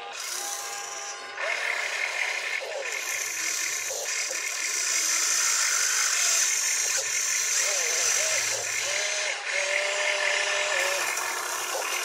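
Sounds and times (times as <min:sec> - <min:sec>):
toy motors whirring and rattling: 0:00.0 - 0:12.0.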